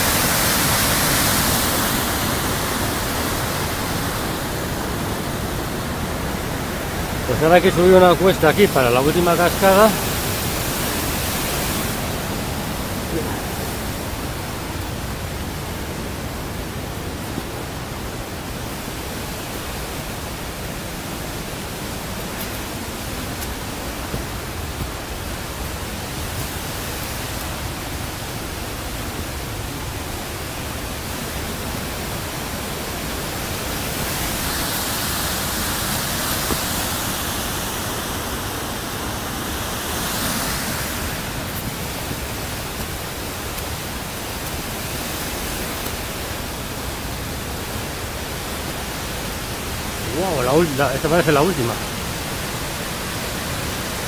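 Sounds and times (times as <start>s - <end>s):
stream and waterfall rushing: 0.0s - 54.0s.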